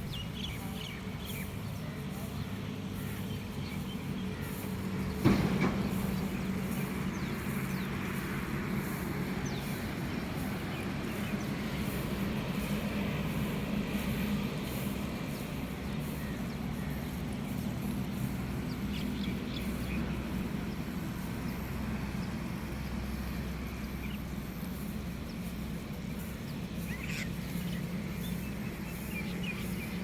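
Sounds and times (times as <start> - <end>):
low mechanical hum: 0.0 - 30.0
small birds chirping: 0.0 - 30.0.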